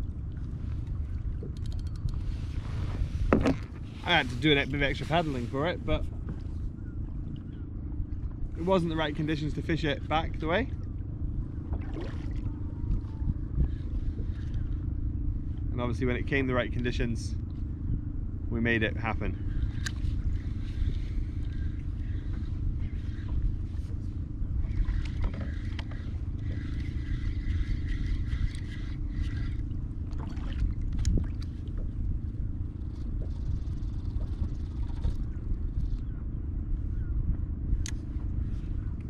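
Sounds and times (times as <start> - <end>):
faint steady whine: 0.0 - 39.0
wind rumble on microphone: 0.0 - 39.0.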